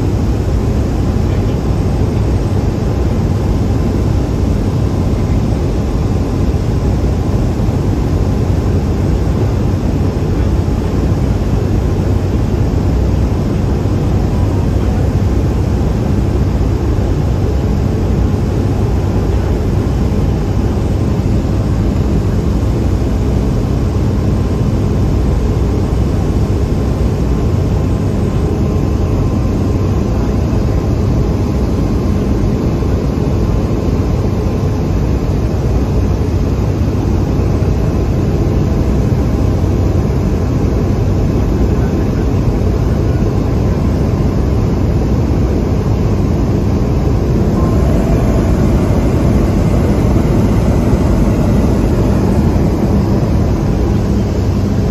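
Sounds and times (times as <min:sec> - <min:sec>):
turboprop engine drone in cabin: 0:00.0 - 0:54.9.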